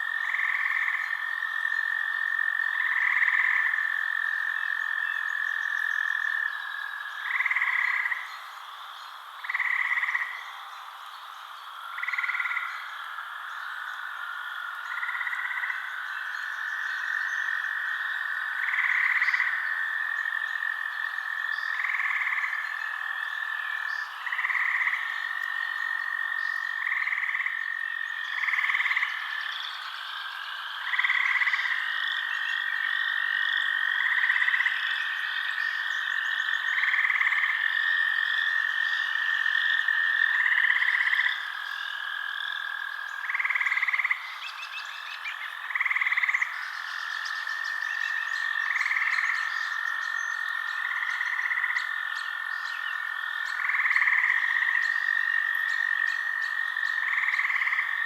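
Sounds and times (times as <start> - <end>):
frog call: 0.0 - 58.0
frogs trilling: 0.0 - 58.0.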